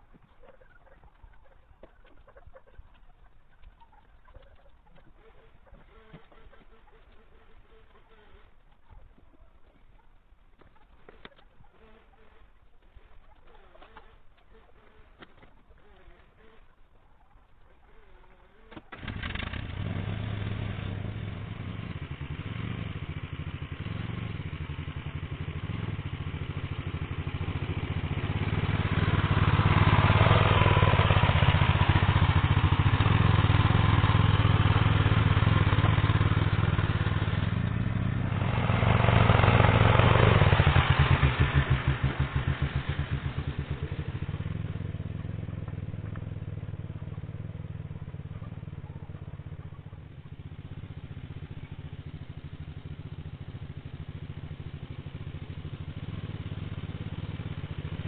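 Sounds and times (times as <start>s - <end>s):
walking tractor engine running: 0.0s - 58.0s.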